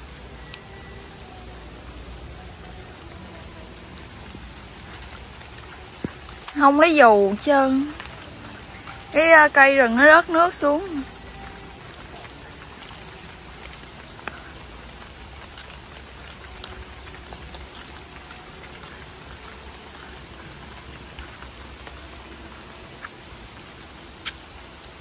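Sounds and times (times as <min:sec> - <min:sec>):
rain dripping from trees: 0:00.0 - 0:25.0.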